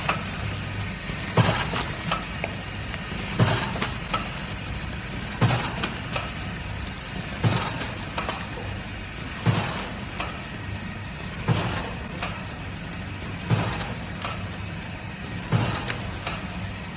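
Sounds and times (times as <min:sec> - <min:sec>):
machine clack and hiss: 0:00.0 - 0:16.9
packing machine hum: 0:00.0 - 0:16.9.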